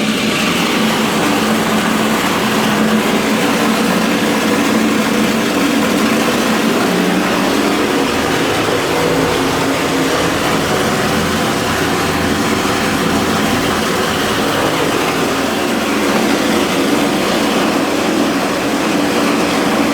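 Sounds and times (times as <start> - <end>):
steam boiler rumbling: 0.0 - 19.9.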